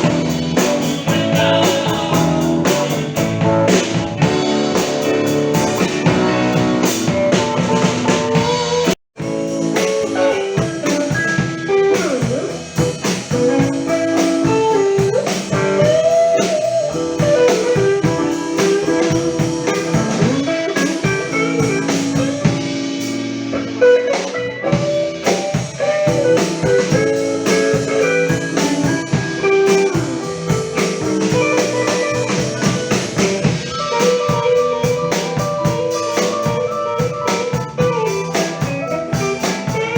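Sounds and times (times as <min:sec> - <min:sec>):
blues guitar lead: 0:00.0 - 0:39.9
drum kit: 0:00.0 - 0:39.9.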